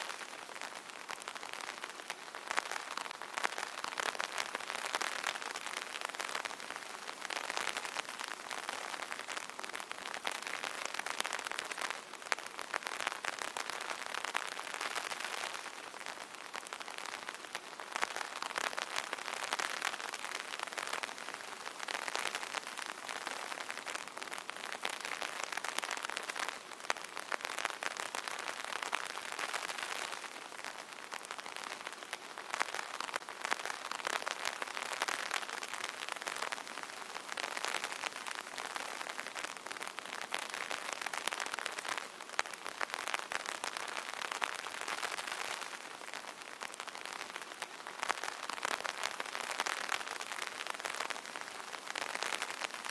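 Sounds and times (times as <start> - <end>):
rain pattering on umbrella: 0.0 - 52.9.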